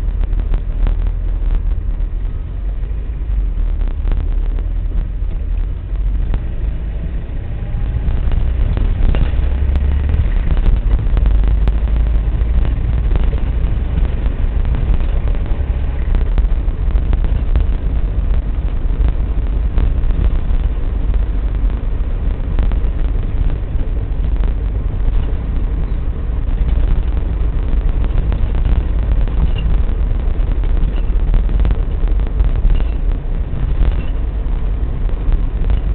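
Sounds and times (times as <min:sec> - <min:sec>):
car engine and road noise: 0:00.0 - 0:35.9.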